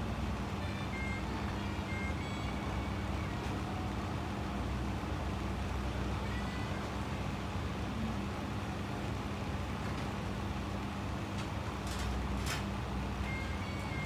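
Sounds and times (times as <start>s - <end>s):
low background rumble and hum: 0.0s - 14.0s.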